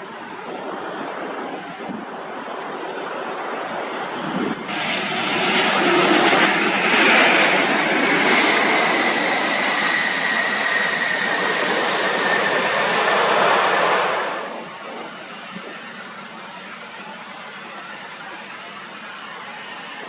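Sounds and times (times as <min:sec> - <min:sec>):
high engine whine: 0:00.0 - 0:20.0
jet engines rushing past: 0:00.0 - 0:20.0.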